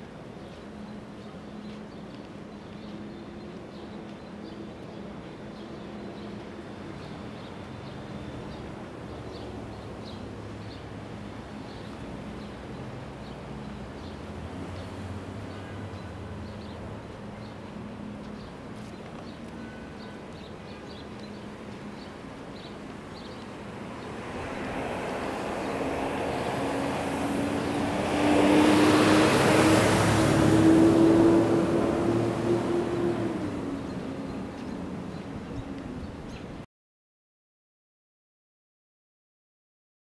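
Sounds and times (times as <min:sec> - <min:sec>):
low hum of traffic: 0:00.0 - 0:36.7.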